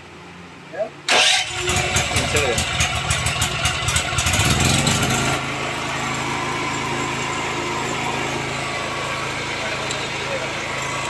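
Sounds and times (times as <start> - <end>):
generator engine running: 1.1 - 11.0.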